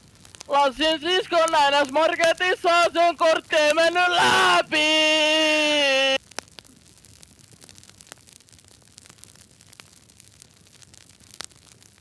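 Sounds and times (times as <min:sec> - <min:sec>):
fireplace crackling: 0:00.0 - 0:11.8.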